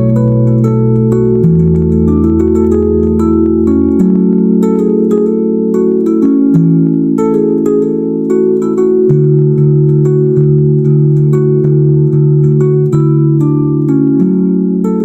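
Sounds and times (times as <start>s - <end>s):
light ticking beat: 0.0s - 15.0s
low held chords: 0.0s - 15.0s
melody of short notes: 0.0s - 15.0s.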